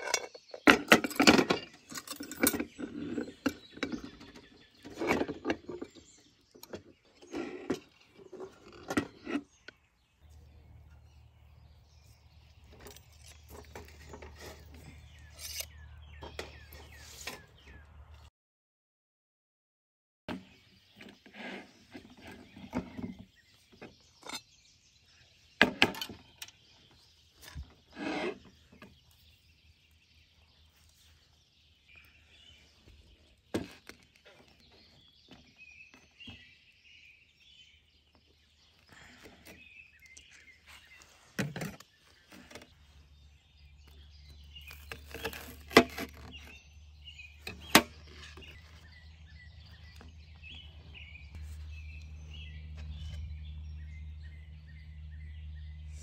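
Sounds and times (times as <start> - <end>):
birds chirping: 0.0 - 18.3, 20.3 - 56.0.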